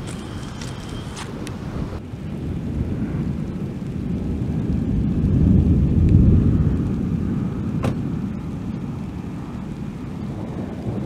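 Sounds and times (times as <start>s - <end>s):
thunder rolling: 0.0s - 11.0s.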